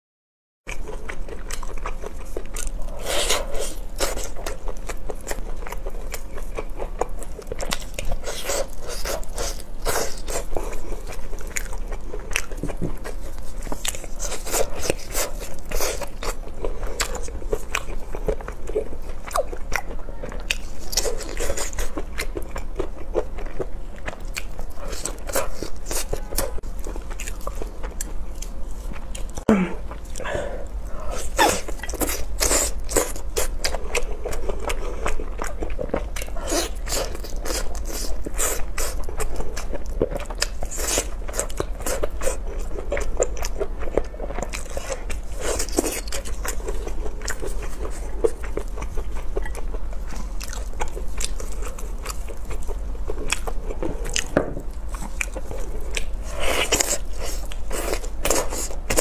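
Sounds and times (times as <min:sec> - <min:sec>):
person chewing meat: 0:00.7 - 0:59.0.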